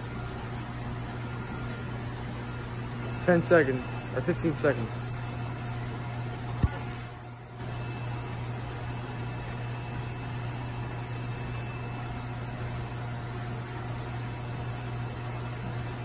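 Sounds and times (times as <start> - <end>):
aquarium pumps humming: 0.0 - 16.0.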